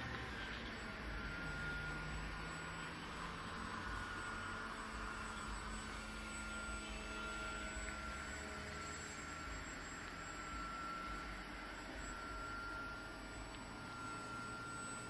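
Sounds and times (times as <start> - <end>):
model airplane motor whine: 0.0 - 15.0.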